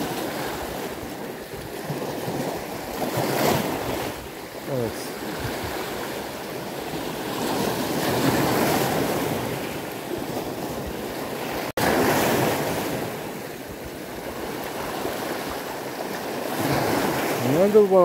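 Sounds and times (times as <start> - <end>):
waves washing over rocks: 0.0 - 18.0.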